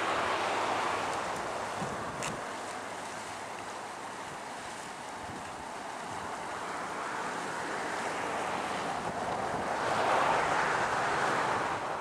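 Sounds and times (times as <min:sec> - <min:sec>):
steam venting and mud bubbling: 0:00.0 - 0:12.0.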